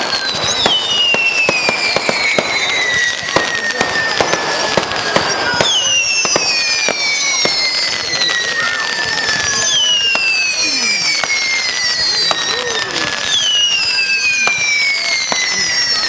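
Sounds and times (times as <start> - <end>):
firework pops and crackles: 0.0 - 16.0
firework whistles sliding down: 0.0 - 16.0.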